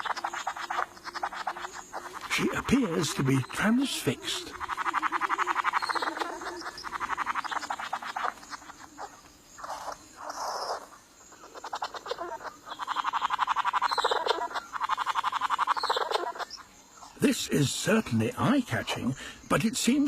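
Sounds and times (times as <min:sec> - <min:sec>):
bird rattling churr: 0:00.0 - 0:17.2
harsh hissing bird notes: 0:00.0 - 0:20.0.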